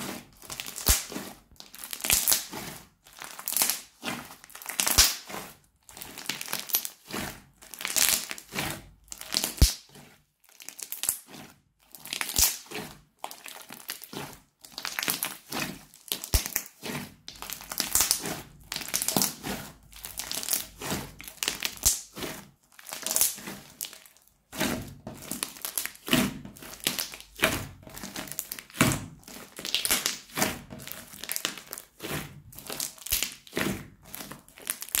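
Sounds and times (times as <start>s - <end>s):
slime crackling and squishing: 0.0s - 35.0s.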